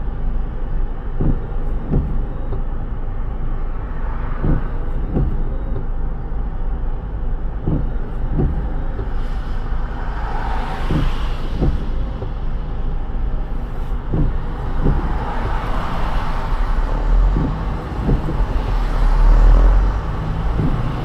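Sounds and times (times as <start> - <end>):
car road rumble: 0.0 - 21.0
windshield wipers thumping: 0.2 - 21.0.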